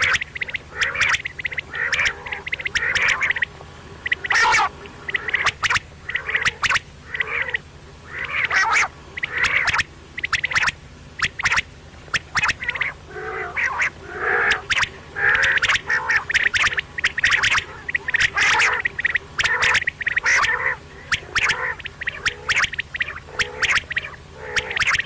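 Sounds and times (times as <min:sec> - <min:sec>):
quail calling: 0:00.0 - 0:25.0.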